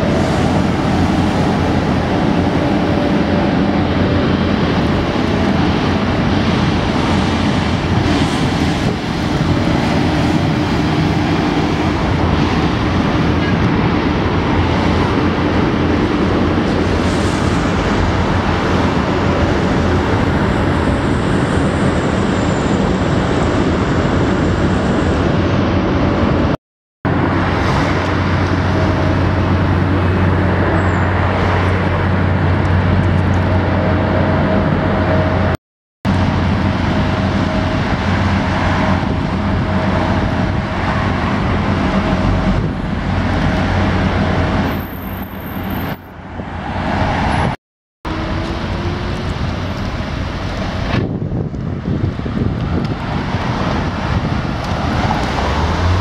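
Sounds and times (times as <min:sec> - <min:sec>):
cars passing: 0:00.0 - 0:56.0
engine hum: 0:00.0 - 0:56.0.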